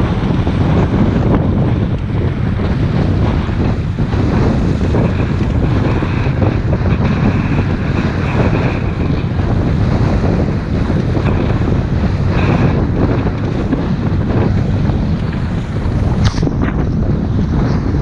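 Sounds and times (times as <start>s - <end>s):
motorboat running across water: 0.0s - 18.0s
wind buffeting microphone: 0.0s - 18.0s.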